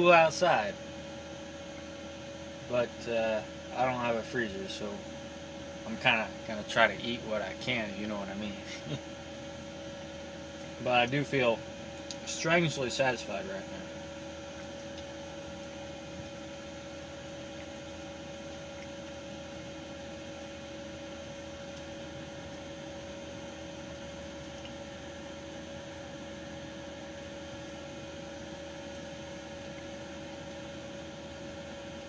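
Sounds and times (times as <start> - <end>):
constant mid-pitched tone: 0.0 - 32.0
machine hum: 0.0 - 32.0.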